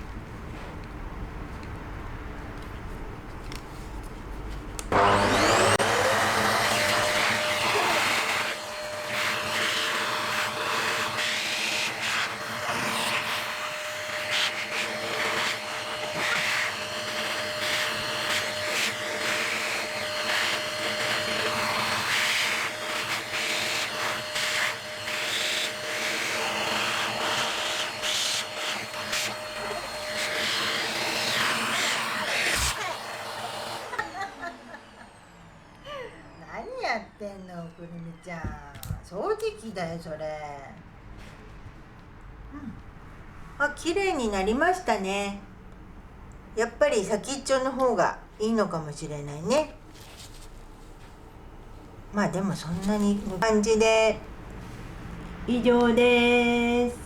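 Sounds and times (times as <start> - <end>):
vacuum cleaner running: 0.0 - 40.2, 43.7 - 57.0.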